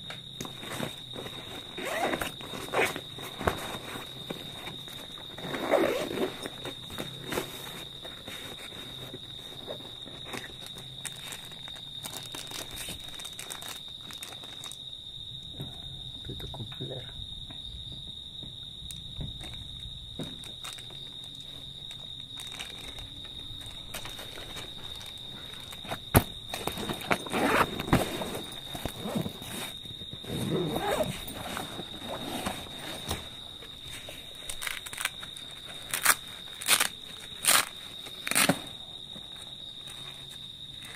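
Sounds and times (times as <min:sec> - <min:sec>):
fabric and plastic rustling: 0:00.1 - 0:14.8, 0:20.2 - 0:38.8.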